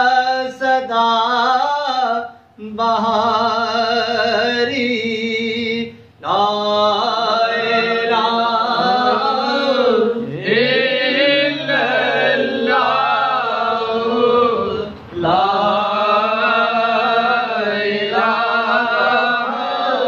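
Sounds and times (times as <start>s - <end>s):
man chanting unaccompanied: 0.0s - 20.0s.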